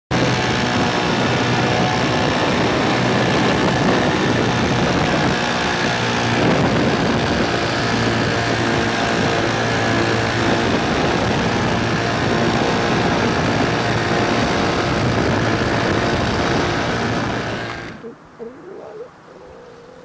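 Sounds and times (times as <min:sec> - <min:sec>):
paramotor engine and propeller running: 0:00.1 - 0:18.1.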